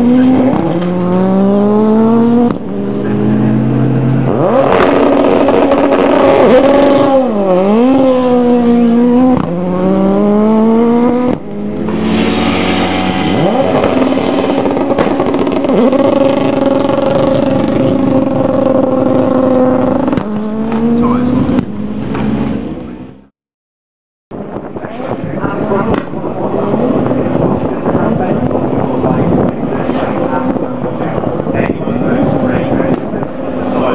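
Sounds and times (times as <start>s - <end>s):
race cars passing at speed: 0.0s - 23.3s, 24.4s - 33.9s.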